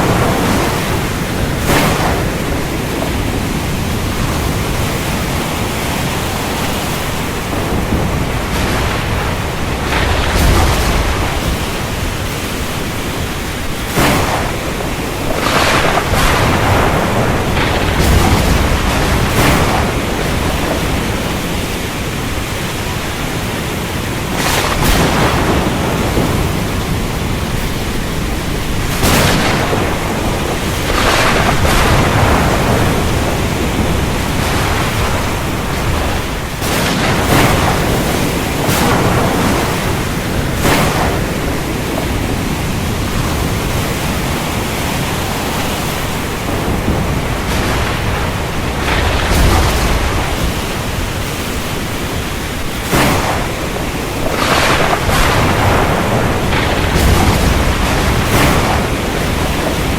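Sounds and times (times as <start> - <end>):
heavy rain rushing: 0.0 - 59.9
thunder bursts: 0.0 - 59.9.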